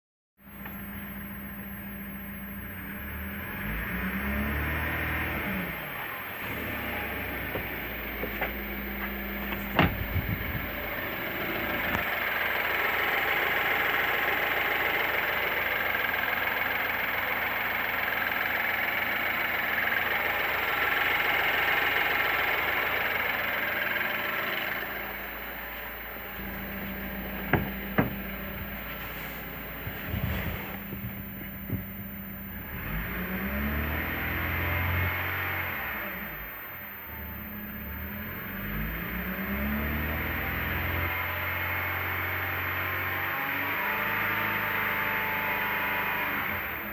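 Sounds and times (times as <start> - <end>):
car engine running: 0.4 - 46.9.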